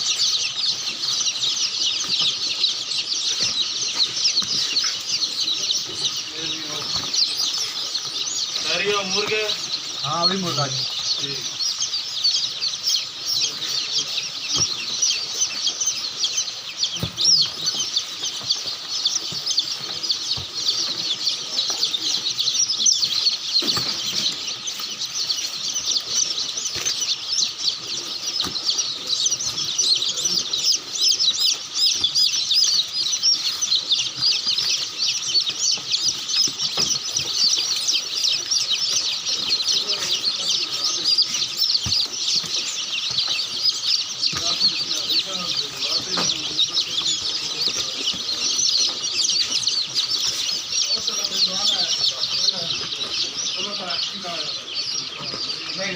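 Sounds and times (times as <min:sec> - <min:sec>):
chickens clucking and chirping: 0:00.0 - 0:55.9.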